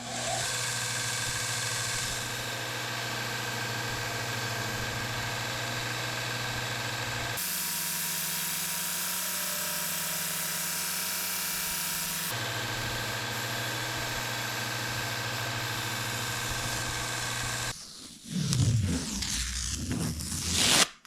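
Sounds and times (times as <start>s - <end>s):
power tool motor running: 0.0s - 17.7s.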